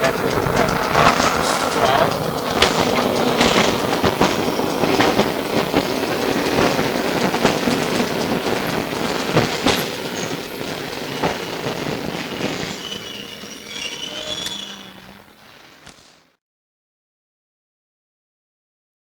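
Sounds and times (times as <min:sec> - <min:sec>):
faint wheel squeal: 0:00.0 - 0:16.2
tram wheel noise: 0:00.0 - 0:16.3.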